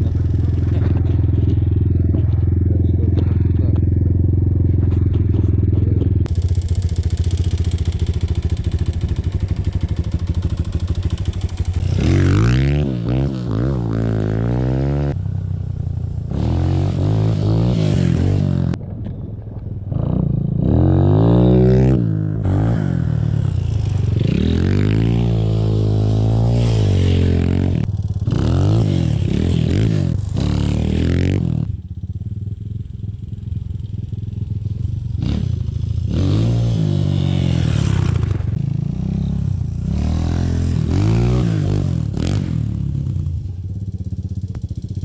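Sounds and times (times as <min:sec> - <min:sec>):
engine revving: 0:00.0 - 0:15.2, 0:16.3 - 0:18.8, 0:19.9 - 0:31.7, 0:35.2 - 0:43.2.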